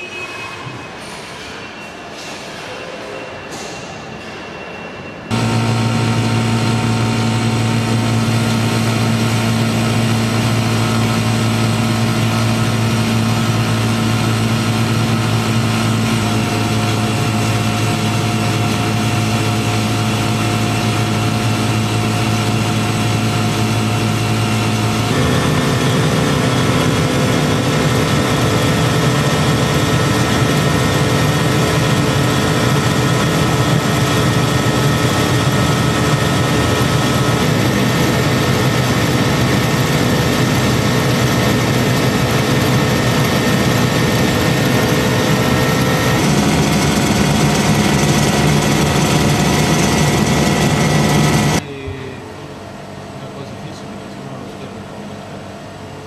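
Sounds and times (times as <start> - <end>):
machine humming: 5.3 - 53.6.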